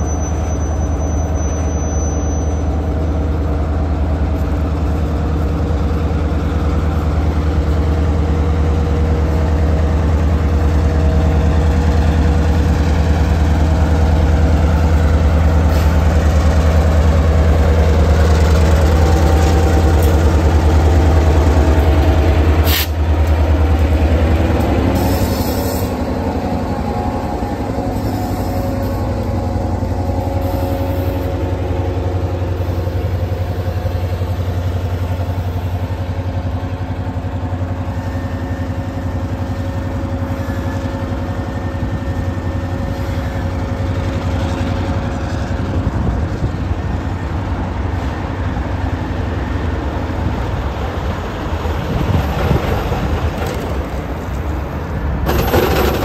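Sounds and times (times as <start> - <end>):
locomotive engine droning: 0.0 - 56.0.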